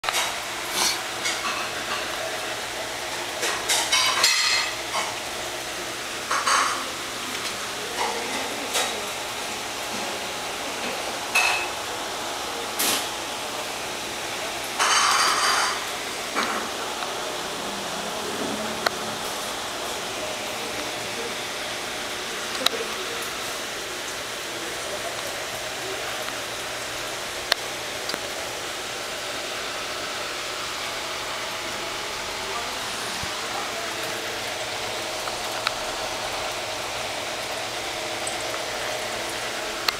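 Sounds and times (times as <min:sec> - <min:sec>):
aquarium filter bubbling: 0:00.0 - 0:39.9.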